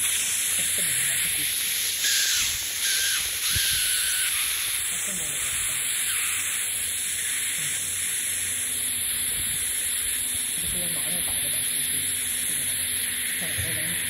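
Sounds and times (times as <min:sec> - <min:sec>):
laser marking machine hissing: 0:00.0 - 0:14.0.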